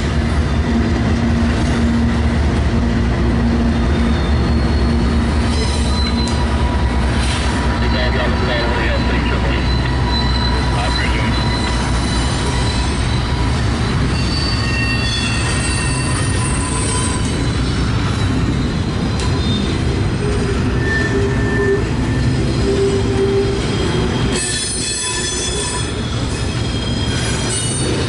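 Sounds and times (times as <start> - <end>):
steel wheels rumbling on rail: 0.0 - 28.0
high-pitched wheel squeals: 3.7 - 6.7, 7.3 - 28.0.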